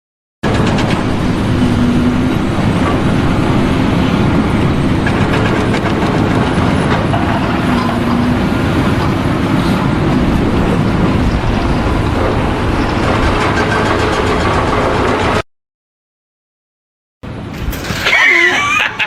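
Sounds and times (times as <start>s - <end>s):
mechanical rumble: 0.4s - 15.4s, 17.2s - 19.0s.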